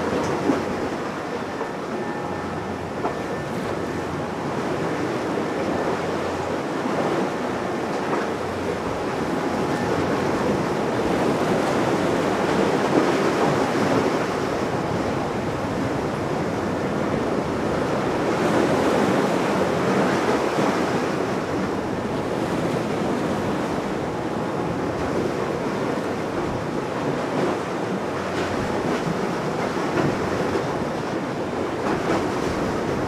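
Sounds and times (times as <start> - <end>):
sea waves: 0.0 - 33.0
wind: 0.0 - 33.0.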